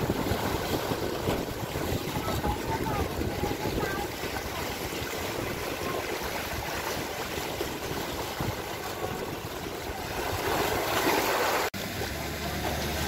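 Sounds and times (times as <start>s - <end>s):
wind buffeting microphone: 0.0s - 11.6s
choppy sea water rushing: 0.0s - 13.0s.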